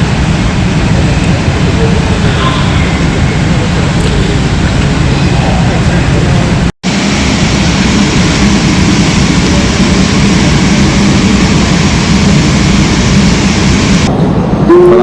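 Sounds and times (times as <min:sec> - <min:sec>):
jet engines running: 0:00.0 - 0:14.6.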